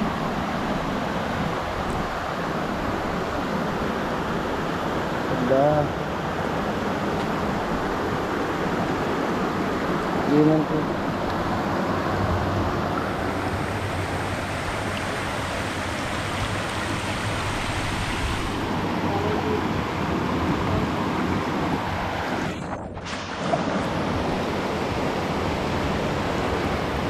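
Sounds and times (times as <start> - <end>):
river rushing over stones: 0.0 - 27.0.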